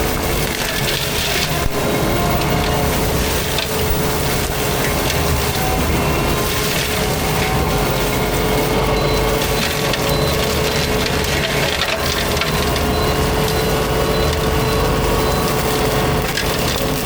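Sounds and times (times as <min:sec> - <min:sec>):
mulcher grinding brush and wood: 0:00.0 - 0:17.0
steady machine whine: 0:00.0 - 0:17.0
wood splintering and crunching: 0:00.0 - 0:17.0.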